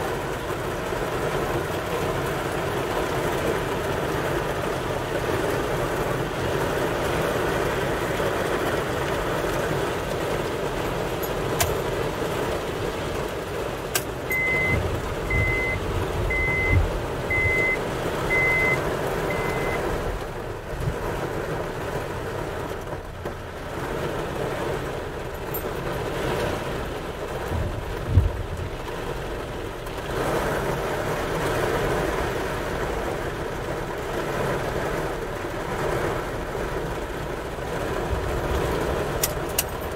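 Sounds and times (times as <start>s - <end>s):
rain and wind on a car: 0.0s - 39.9s.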